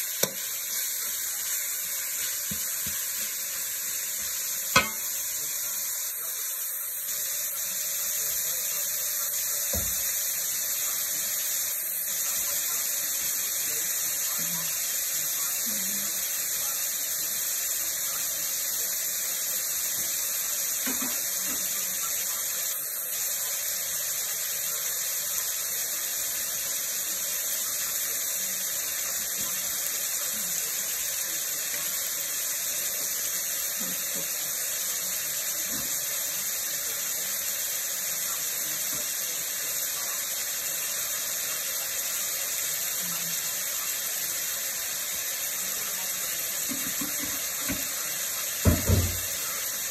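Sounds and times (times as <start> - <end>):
meat sizzling in oil: 0.0 - 49.9.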